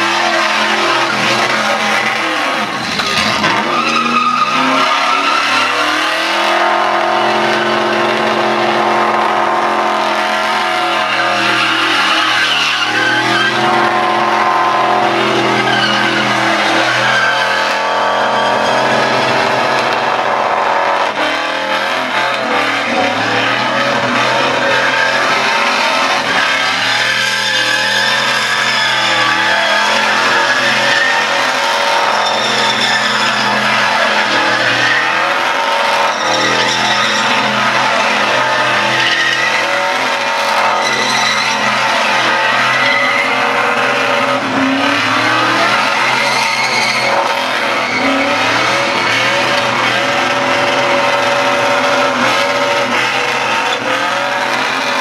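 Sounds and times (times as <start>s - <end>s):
car engine revving high: 0.0s - 55.0s
tyres spinning: 0.0s - 55.0s.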